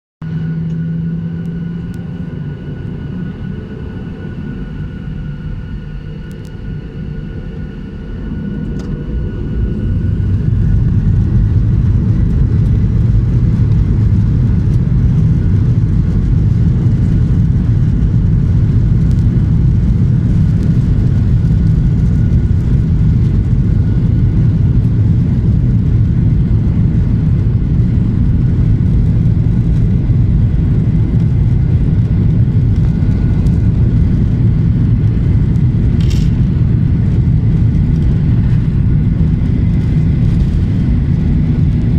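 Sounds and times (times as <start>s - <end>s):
aircraft engines rumbling: 0.2s - 41.9s
high engine whine: 0.2s - 41.9s.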